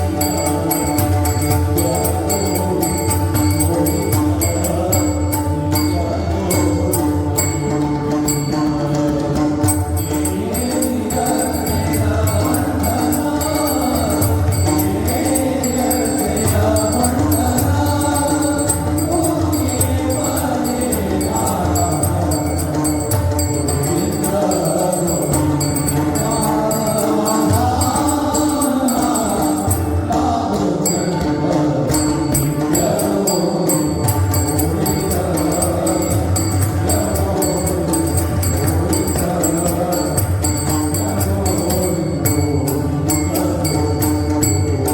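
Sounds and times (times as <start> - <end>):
voices singing devotional song: 0.0 - 7.7, 8.3 - 44.9
hand drums: 0.0 - 44.9.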